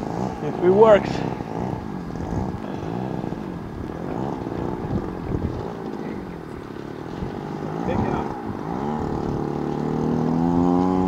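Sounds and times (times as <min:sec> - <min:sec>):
model airplane engine running: 0:00.0 - 0:11.0
wind on microphone: 0:01.3 - 0:11.0.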